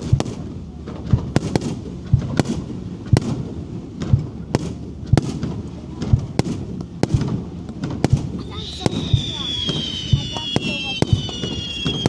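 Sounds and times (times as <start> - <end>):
fireworks deep boom: 0.0 - 12.0
fireworks sharp bangs: 0.0 - 12.0.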